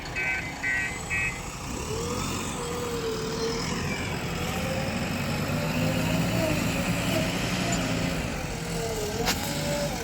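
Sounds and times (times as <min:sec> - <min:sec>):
heavy machinery diesel engine: 0:00.0 - 0:10.0.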